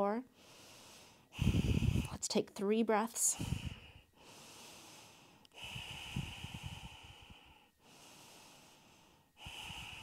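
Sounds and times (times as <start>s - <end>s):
woman breathing slowly: 0.3s - 2.2s, 3.3s - 10.0s.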